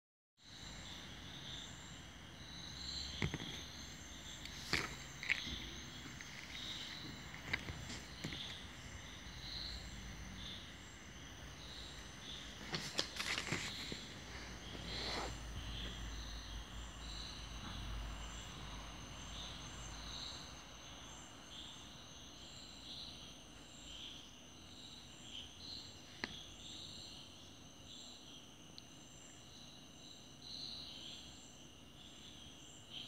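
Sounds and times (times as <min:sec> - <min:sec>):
insects chirping and trilling: 0:00.4 - 0:33.0.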